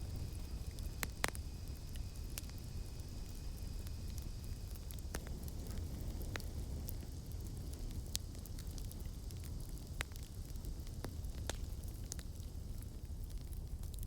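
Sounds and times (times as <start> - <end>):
low rumble of flames: 0.0 - 14.0
burning wood popping and snapping: 0.2 - 14.0.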